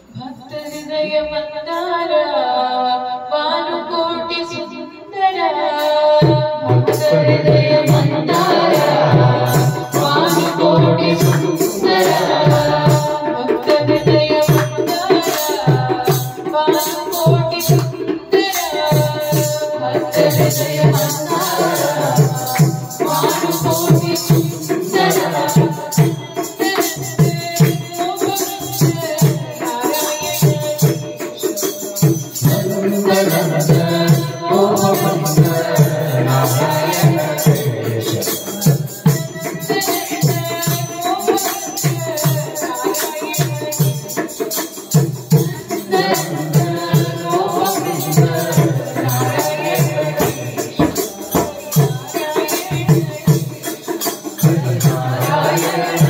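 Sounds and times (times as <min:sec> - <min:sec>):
person singing through speakers: 0:00.0 - 0:56.0
rattling hand percussion: 0:05.8 - 0:56.0
barrel drum beat: 0:06.3 - 0:56.0.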